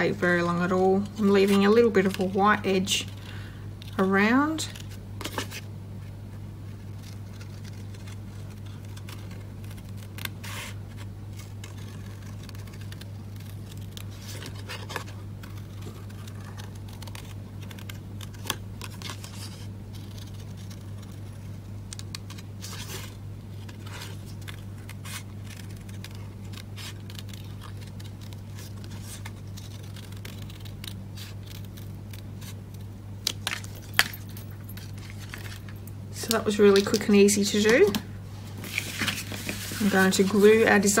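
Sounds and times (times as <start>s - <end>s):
steady low hum: 0.0s - 41.0s
paper rustling: 6.6s - 35.8s, 36.6s - 41.0s.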